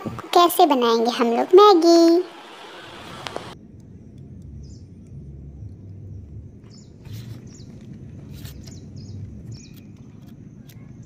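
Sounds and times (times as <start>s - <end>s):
birds chirping: 0.0s - 3.6s, 4.6s - 5.0s, 5.8s - 11.0s
low outdoor rumble: 0.0s - 11.0s.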